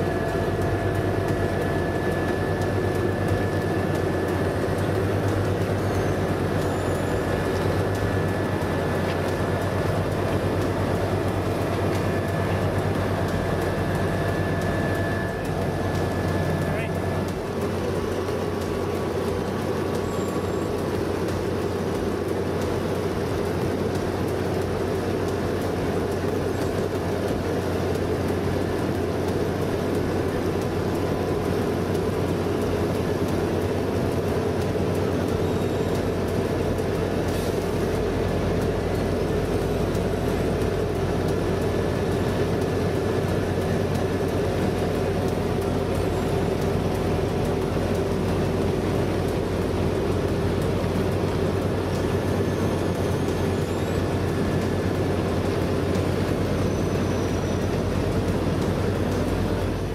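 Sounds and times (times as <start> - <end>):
asphalt paver engine drone: 0.0 - 59.9.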